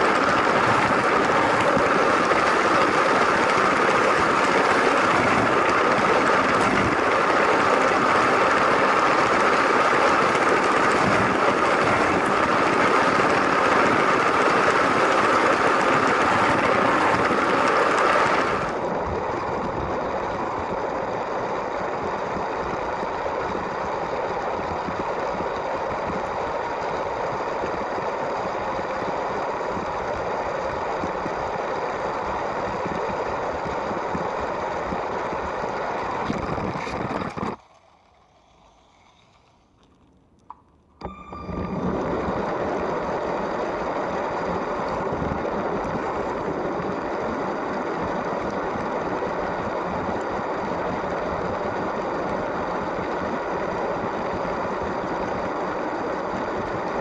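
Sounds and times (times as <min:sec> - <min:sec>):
toy train motor and wheels rolling: 0:00.0 - 0:40.0, 0:41.7 - 0:57.0.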